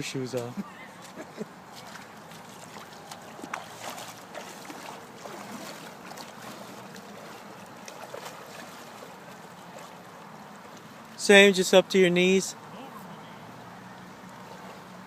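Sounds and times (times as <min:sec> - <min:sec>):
water sloshing: 0:00.0 - 0:11.3, 0:13.8 - 0:15.0
small splashes: 0:00.3 - 0:11.2, 0:13.5 - 0:15.0.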